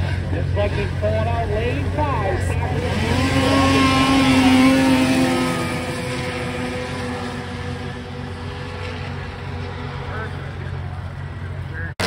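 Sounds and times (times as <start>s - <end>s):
snowmobiles at full throttle: 0.0s - 12.0s.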